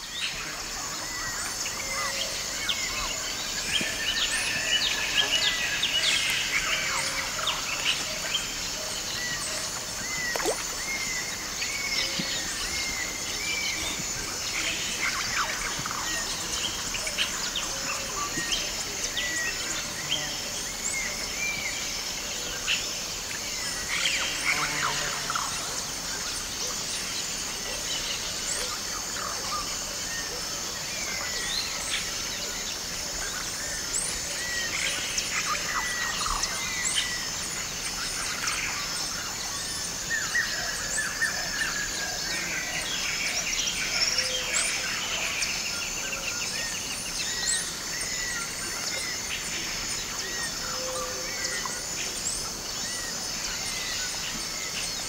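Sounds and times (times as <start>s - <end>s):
high insect drone: 0.0s - 55.0s
many birds calling: 0.0s - 55.0s.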